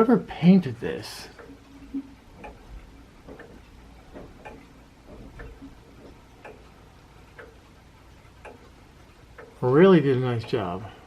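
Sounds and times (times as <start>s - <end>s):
pendulum clock ticking: 0.0s - 11.0s.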